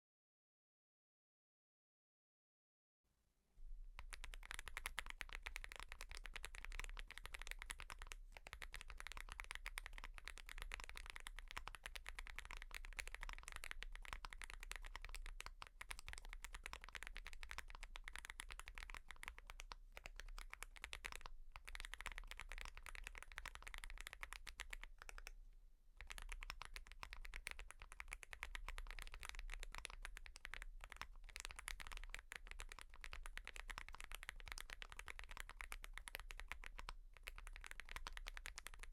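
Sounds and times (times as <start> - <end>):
typing on mechanical keyboard: 4.0 - 25.4, 26.0 - 38.9.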